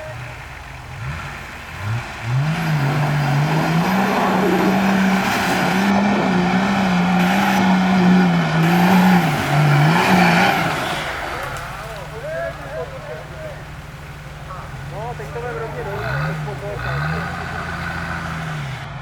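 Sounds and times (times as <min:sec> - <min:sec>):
engine revving hard: 0:00.0 - 0:13.5, 0:14.8 - 0:19.0.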